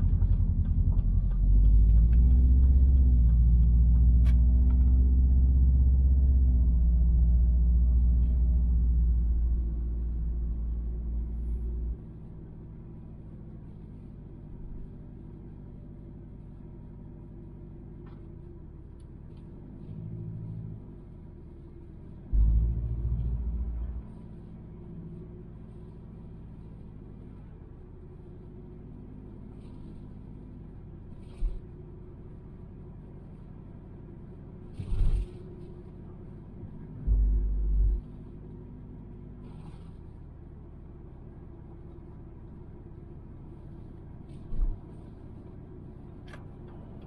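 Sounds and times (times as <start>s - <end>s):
car cabin drone: 0.0s - 47.0s.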